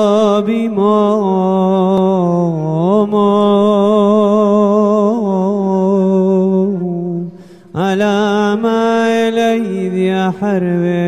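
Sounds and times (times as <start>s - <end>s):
person chanting a hymn unaccompanied: 0.0s - 11.0s.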